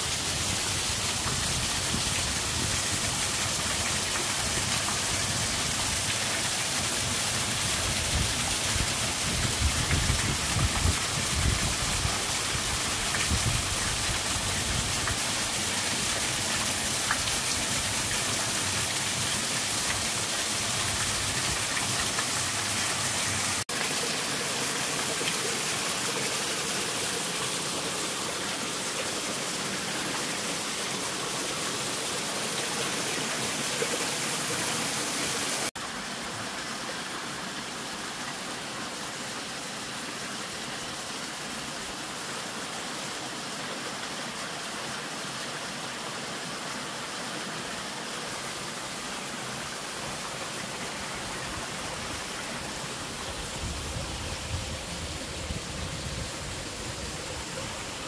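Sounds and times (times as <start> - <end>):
small waterfall splashing into pool: 0.0 - 58.0.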